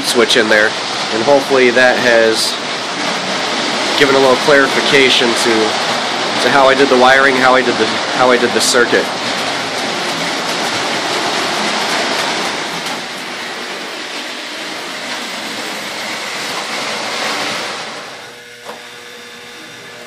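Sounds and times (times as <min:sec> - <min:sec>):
toy trains whirring and rattling: 0:00.0 - 0:20.0.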